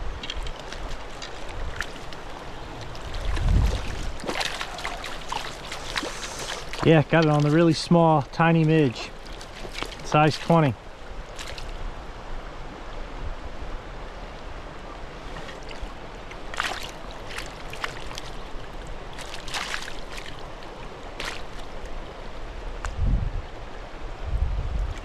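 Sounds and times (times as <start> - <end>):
creek water flowing: 0.0 - 25.0.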